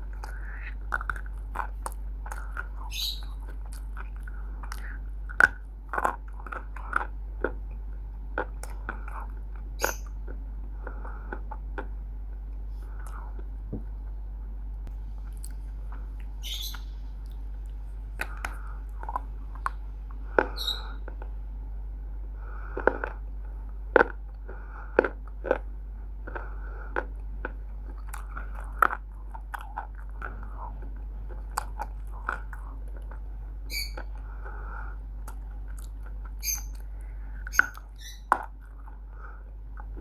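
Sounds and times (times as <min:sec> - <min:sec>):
clay being chewed with crunches: 0:00.0 - 0:14.2, 0:14.8 - 0:21.5, 0:22.4 - 0:40.0
steady low hum: 0:00.0 - 0:40.0.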